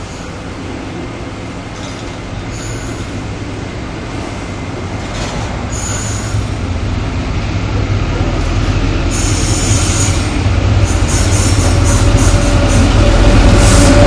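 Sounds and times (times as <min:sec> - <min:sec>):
locomotive engine hum: 0:00.0 - 0:14.0
train rumbling past: 0:00.0 - 0:14.0.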